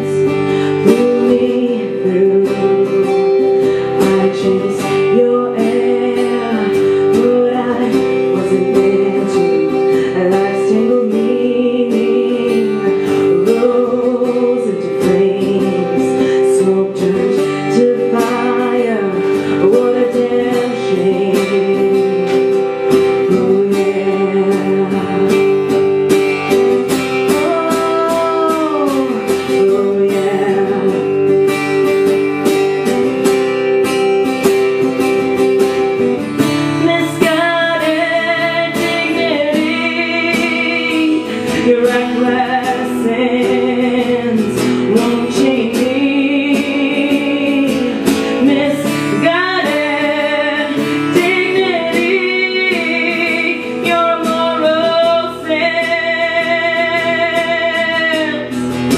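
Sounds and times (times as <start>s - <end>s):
person singing wordless melody: 0.0s - 26.0s, 27.0s - 31.8s, 35.5s - 58.5s
strummed acoustic guitar: 0.0s - 58.9s.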